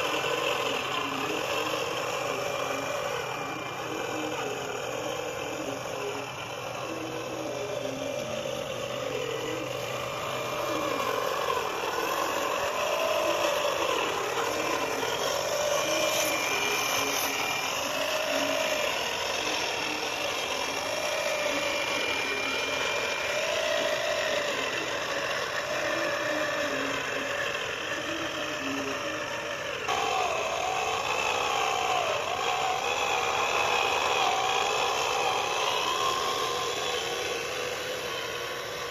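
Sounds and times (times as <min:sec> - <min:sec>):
small electric motor whirring: 0:00.0 - 0:38.9.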